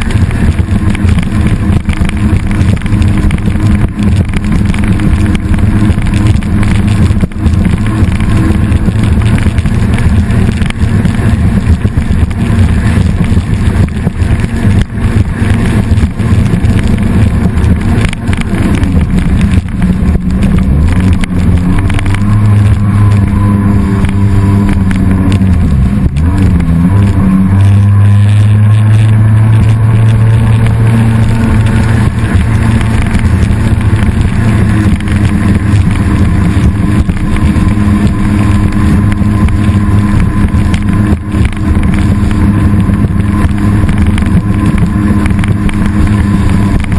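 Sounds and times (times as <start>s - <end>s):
jet ski engine running: 0.0s - 46.9s.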